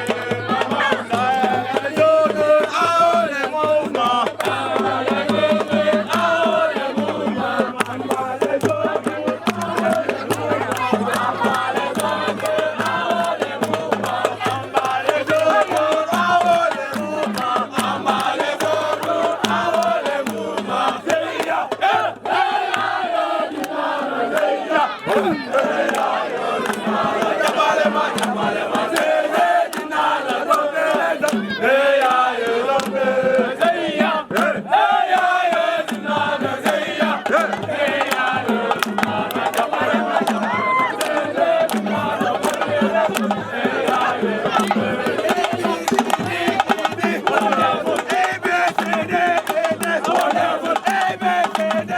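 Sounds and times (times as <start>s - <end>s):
group of voices chanting: 0.0s - 51.9s
rapid loud percussion: 0.0s - 51.9s.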